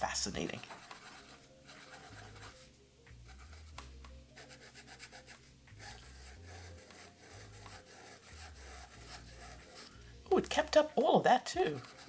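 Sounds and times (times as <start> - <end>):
fountain pen scratching on paper: 0.5 - 2.7, 3.3 - 10.8, 11.6 - 12.0.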